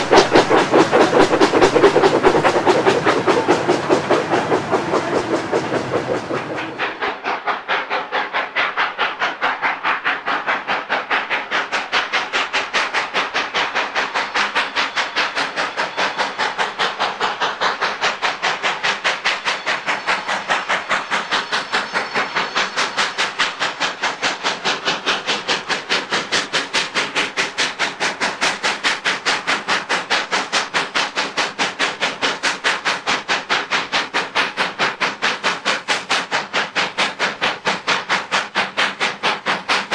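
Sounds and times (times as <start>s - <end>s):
steam locomotive chuffing: 0.0s - 39.9s.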